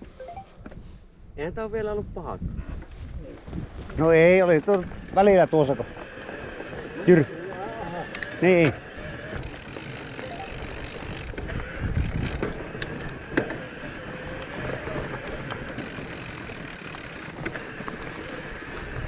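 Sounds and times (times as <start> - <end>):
bike tyre rumble: 2.4 - 19.0.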